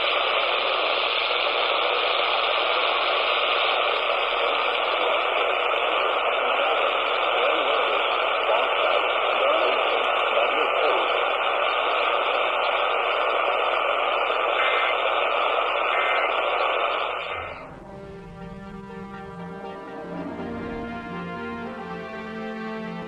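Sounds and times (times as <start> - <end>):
radio static hiss: 0.0 - 20.5.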